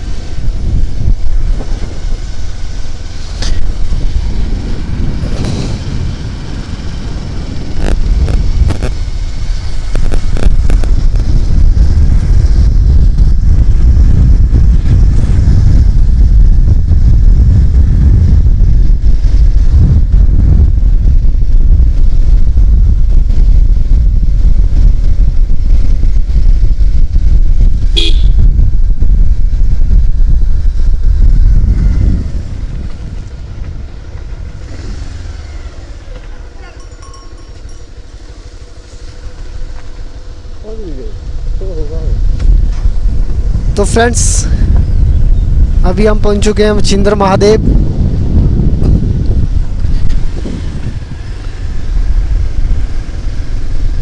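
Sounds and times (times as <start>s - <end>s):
vehicle rumbling along road: 0.0s - 54.0s
wind buffeting microphone: 0.0s - 54.0s.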